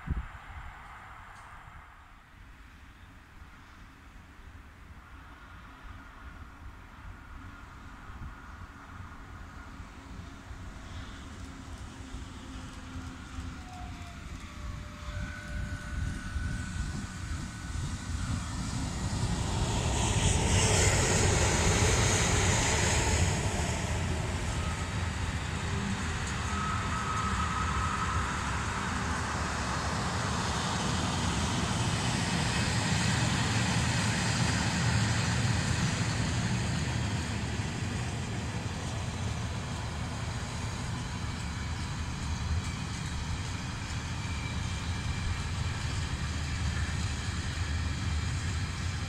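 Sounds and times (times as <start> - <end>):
freight train rolling past: 5.0 - 49.0.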